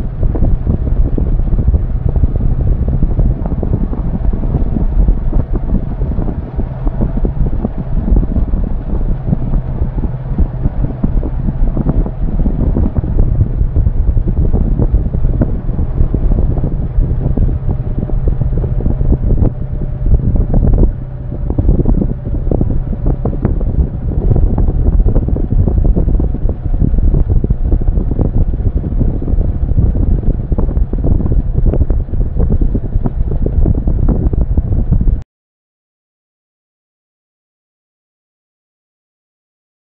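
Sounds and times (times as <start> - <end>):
motorcycle engine hum: 0.0 - 35.2
wind buffeting microphone: 0.0 - 35.2.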